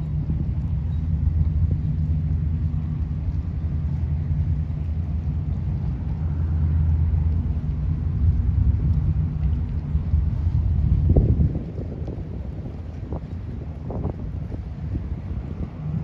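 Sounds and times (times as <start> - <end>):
boat engines rumbling: 0.0 - 16.0.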